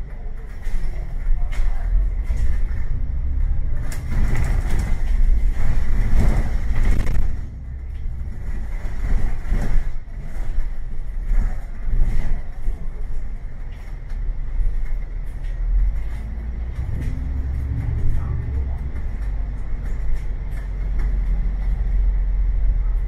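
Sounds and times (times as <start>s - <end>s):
rattles and knocks: 0.0s - 22.2s
bus engine rumble: 0.0s - 23.0s.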